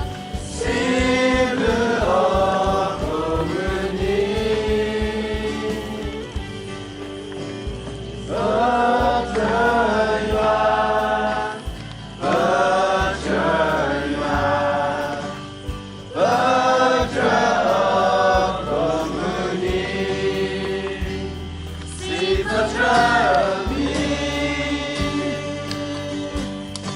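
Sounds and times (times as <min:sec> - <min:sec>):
group singing a hymn: 0:00.0 - 0:26.9.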